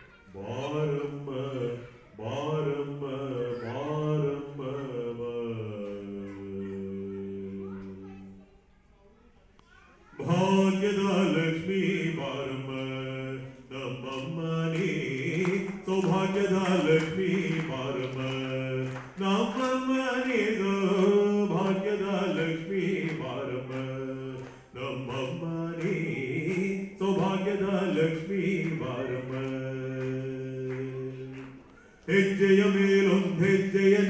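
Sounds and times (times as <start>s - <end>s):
man singing chant-like melody: 0.4s - 8.1s, 10.2s - 34.0s.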